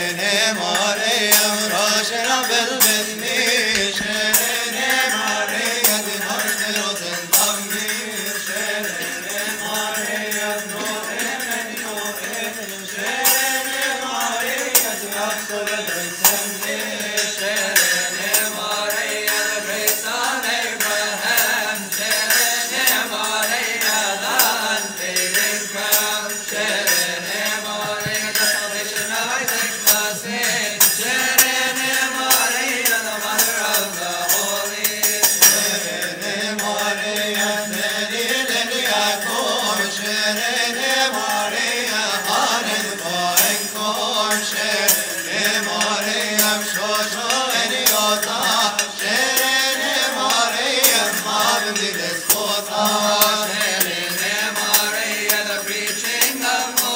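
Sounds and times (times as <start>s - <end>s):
liturgical chant singing: 0.0s - 56.9s
metallic percussion strikes: 0.0s - 56.9s.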